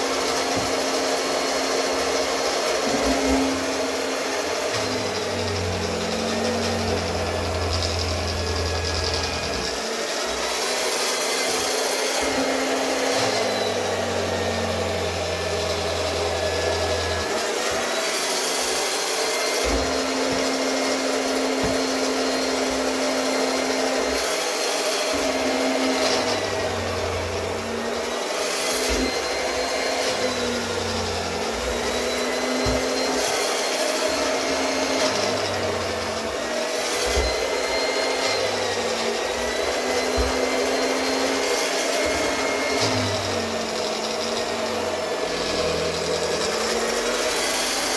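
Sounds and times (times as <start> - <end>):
electric cloth cutter whining: 0.0 - 47.9.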